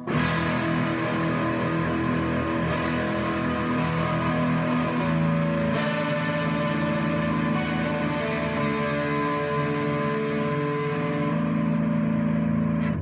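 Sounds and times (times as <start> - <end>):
fuzzed electric guitar chords strummed: 0.0 - 13.0.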